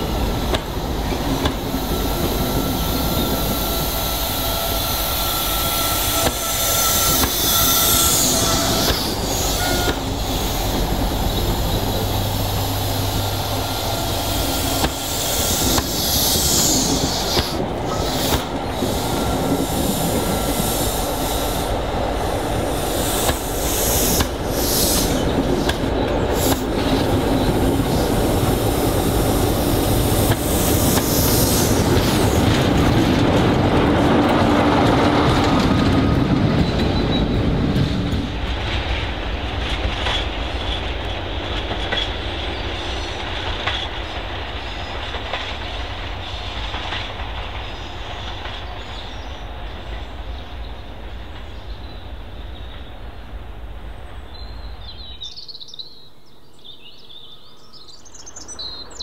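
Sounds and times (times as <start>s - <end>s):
wheels squealing on rails: 0.0s - 52.9s
train running by: 0.0s - 55.9s.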